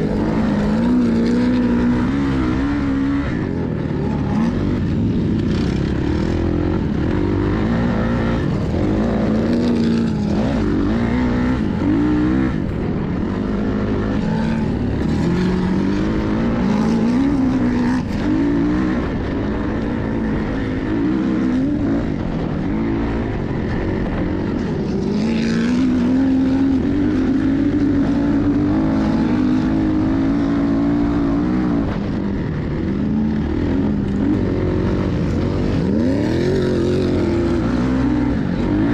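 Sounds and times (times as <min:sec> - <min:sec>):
dirt bike engine revving: 0:00.0 - 0:38.9
wind rumble on microphone: 0:00.0 - 0:38.9.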